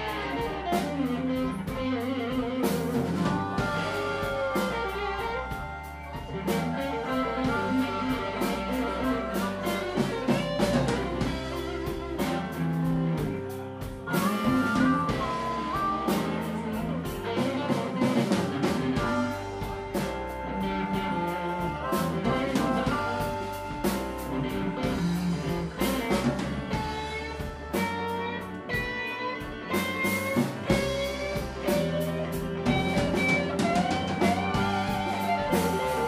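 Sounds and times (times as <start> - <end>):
electric guitar bending notes: 0.0 - 36.0
live blues rock band: 0.0 - 36.0.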